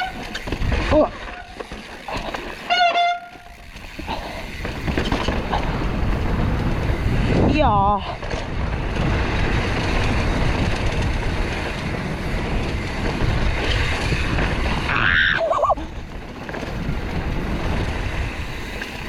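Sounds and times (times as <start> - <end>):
wind buffeting microphone: 0.0 - 2.6, 3.5 - 19.0
bike tyres rolling on rough trail: 0.0 - 19.0.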